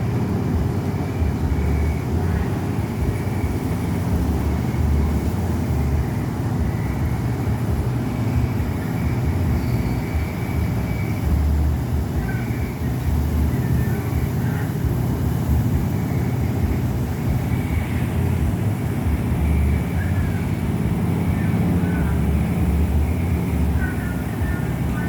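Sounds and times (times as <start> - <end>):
faint high whine: 0.0 - 25.0
machinery low rumble: 0.0 - 25.0.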